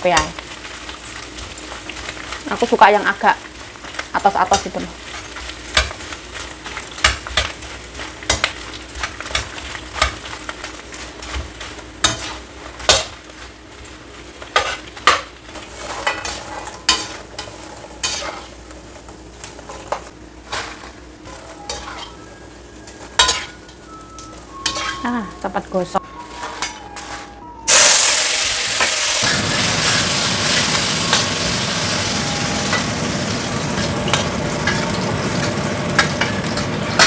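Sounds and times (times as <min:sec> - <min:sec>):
food sizzling in hot oil: 0:00.0 - 0:26.8, 0:27.7 - 0:37.0.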